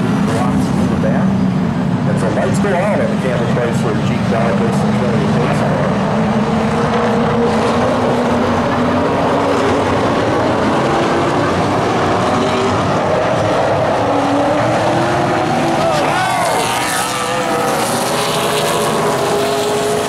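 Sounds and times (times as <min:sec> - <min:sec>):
race car engines roaring: 0:00.0 - 0:20.0.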